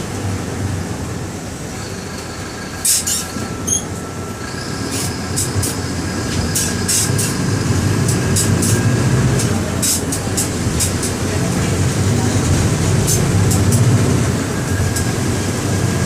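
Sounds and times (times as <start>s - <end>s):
diesel bus engine drone: 0.0s - 16.0s.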